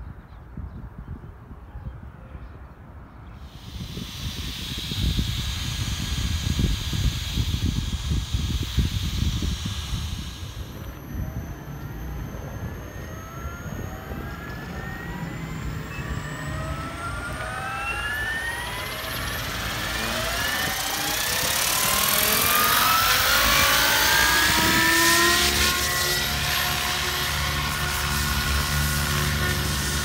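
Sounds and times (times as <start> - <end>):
electric motor whine rising: 3.4 - 30.0
helicopter rotor blade noise: 3.4 - 30.0.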